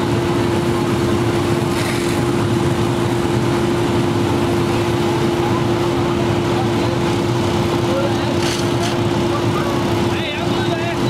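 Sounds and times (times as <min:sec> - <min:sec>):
fire engine motor and pump: 0:00.0 - 0:11.0.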